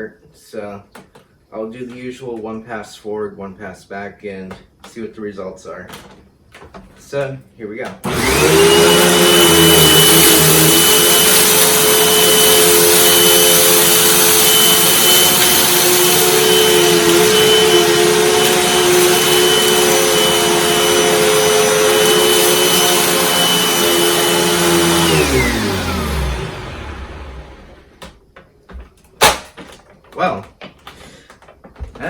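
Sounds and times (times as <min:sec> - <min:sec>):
upright vacuum cleaner whining: 0:05.9 - 0:32.0.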